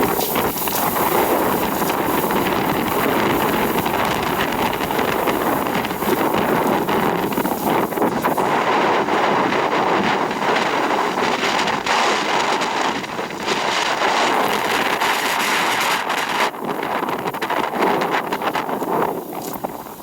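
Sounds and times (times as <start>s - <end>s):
gusty wind on microphone: 0.0s - 20.0s.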